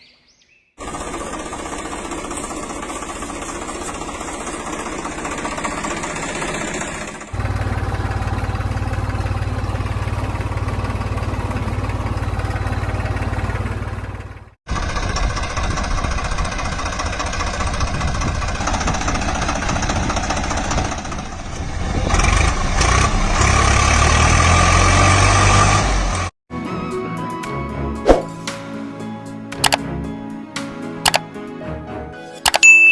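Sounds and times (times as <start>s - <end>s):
backhoe loader engine: 0.8s - 26.3s, 29.5s - 30.2s, 31.0s - 31.3s
tractor engine: 0.8s - 26.3s, 28.0s - 31.4s.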